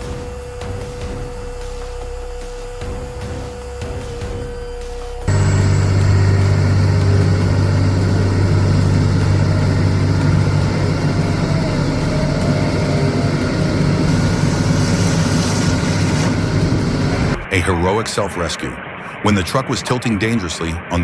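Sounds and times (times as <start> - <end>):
heavy diesel engine droning: 0.0 - 17.5.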